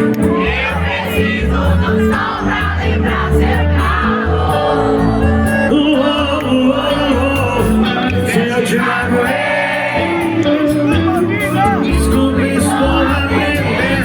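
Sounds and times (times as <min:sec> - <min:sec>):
live band with heavy bass: 0:00.0 - 0:14.0.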